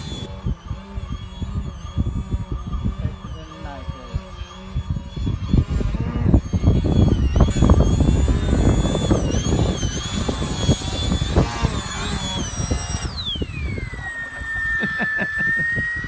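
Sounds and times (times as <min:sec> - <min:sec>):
wind buffeting microphone: 0:00.0 - 0:14.7
model plane electric motor whining: 0:00.0 - 0:16.0.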